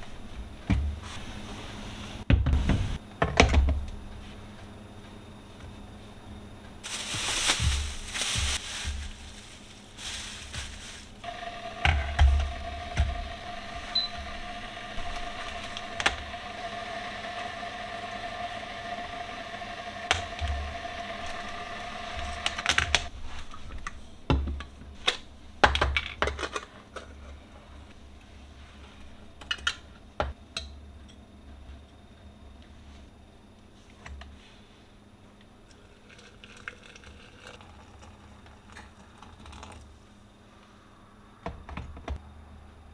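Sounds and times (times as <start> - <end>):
steady hum with high hiss: 0.0 - 42.9.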